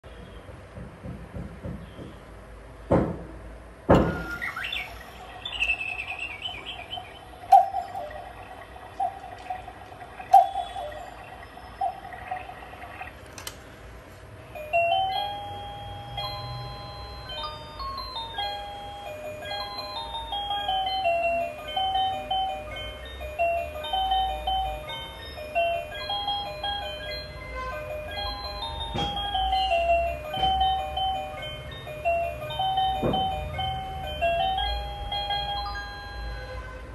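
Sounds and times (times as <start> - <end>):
music box tune: 4.0 - 12.8, 14.4 - 36.9
cuckoo clock calls: 4.0 - 13.6, 14.6 - 36.7.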